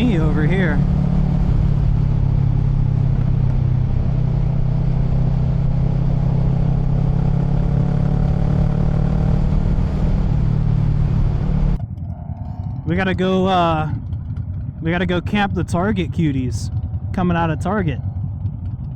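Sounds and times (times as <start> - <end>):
motorcycle engine running: 0.0 - 18.9
wind and road noise on microphone: 0.0 - 18.9.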